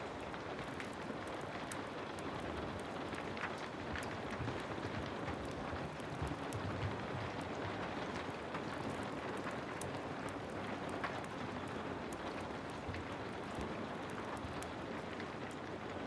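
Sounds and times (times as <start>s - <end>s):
heavy rain: 0.0s - 16.0s
wood fire crackling: 0.0s - 16.0s.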